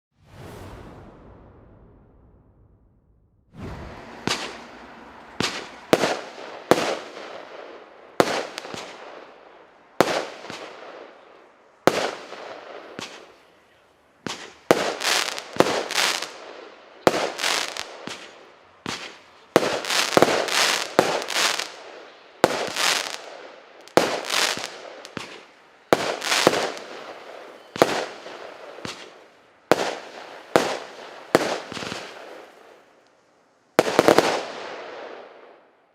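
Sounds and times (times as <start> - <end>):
firework bursts: 3.5 - 33.1, 33.8 - 35.6.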